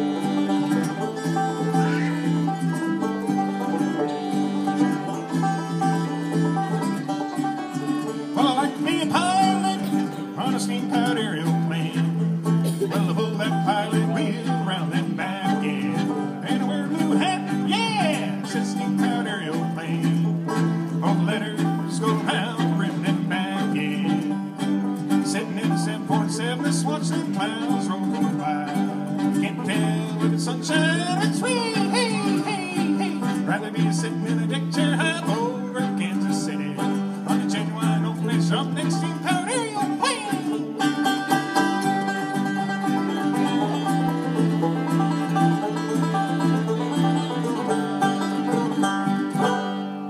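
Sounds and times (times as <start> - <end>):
banjo picking: 0.0 - 50.0
fiddle melody: 0.0 - 50.0.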